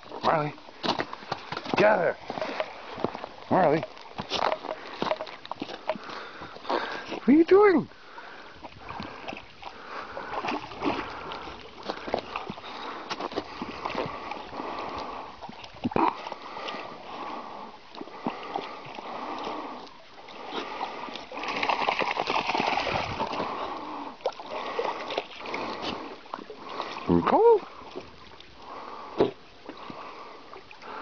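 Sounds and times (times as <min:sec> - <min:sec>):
dog paddling and splashing water: 0:00.0 - 0:31.0.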